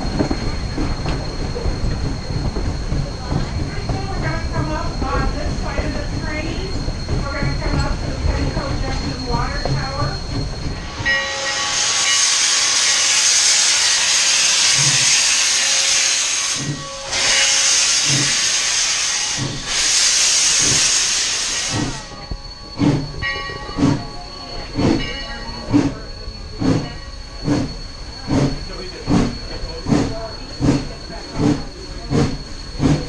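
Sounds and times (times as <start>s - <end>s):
locomotive exhaust chuffs: 0.0s - 33.0s
steam locomotive hissing: 0.0s - 33.0s.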